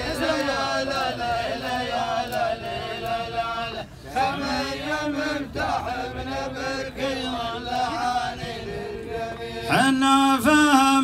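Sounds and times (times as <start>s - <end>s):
men chanting together: 0.0s - 11.0s.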